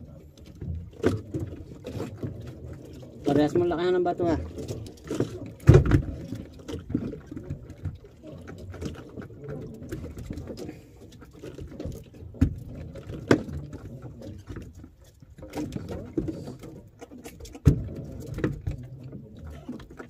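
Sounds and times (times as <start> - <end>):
light watery pattering: 0.0 - 20.0.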